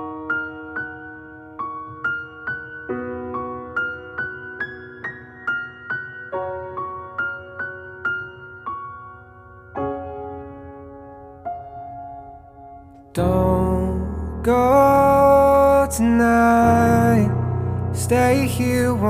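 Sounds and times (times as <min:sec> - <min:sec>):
soft piano melody: 0:00.0 - 0:19.0.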